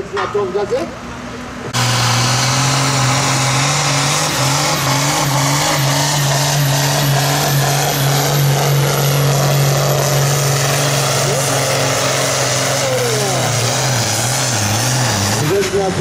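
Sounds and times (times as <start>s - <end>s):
diesel tractor engine running: 1.6s - 16.0s.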